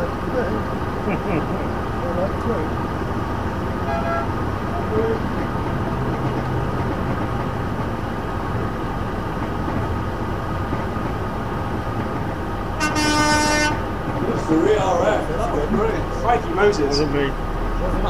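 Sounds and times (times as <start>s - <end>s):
diesel engine running steadily: 0.0s - 18.0s.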